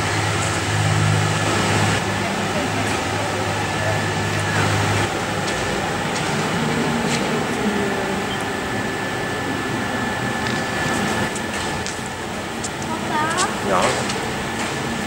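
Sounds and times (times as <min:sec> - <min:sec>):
ventilation rushing noise: 0:00.0 - 0:15.0.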